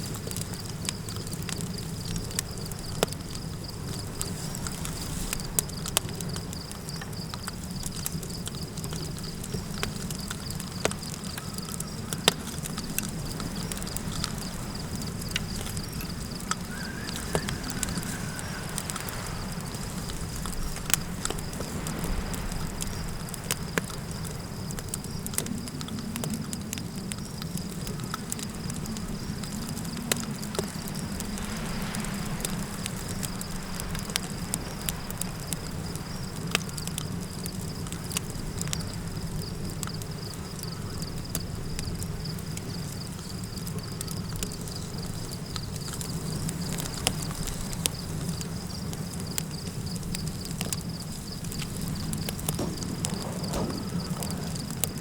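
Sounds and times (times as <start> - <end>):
campfire crackling with pops: 0.0 - 55.0
low wind rumble: 0.0 - 55.0.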